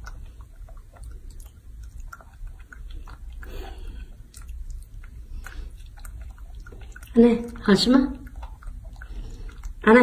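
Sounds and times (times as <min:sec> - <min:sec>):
monkey chewing fruit: 0:00.0 - 0:10.0.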